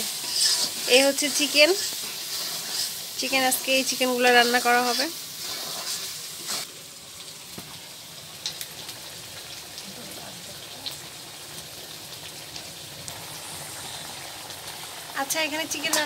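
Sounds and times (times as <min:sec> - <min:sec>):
spice paste sizzling in pan: 0:00.0 - 0:16.0.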